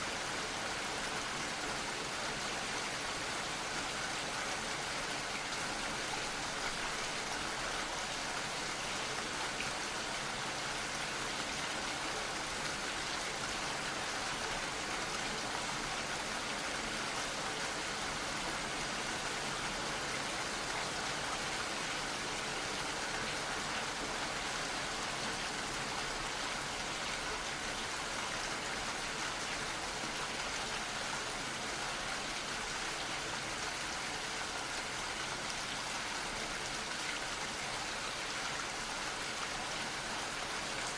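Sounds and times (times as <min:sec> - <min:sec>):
gentle rain pattering: 0:00.0 - 0:40.9.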